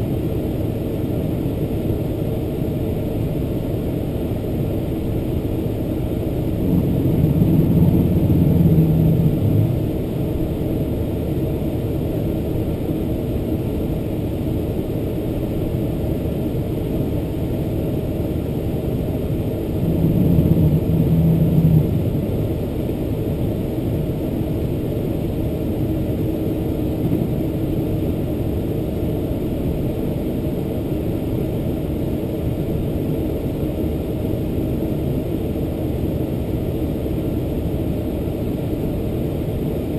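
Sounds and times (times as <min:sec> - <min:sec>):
airplane taxiing rumble: 0:00.0 - 0:39.9.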